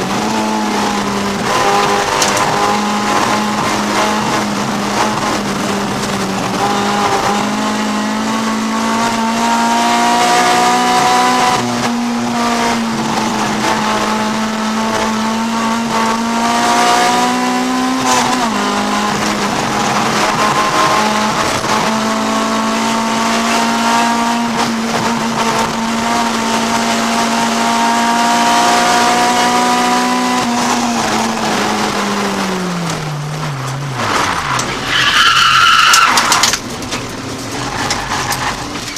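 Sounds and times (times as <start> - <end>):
race car engine at high revs: 0.0 - 38.9.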